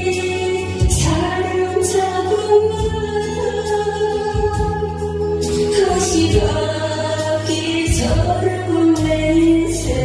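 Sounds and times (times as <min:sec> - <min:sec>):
woman singing into a microphone: 0:00.0 - 0:10.0.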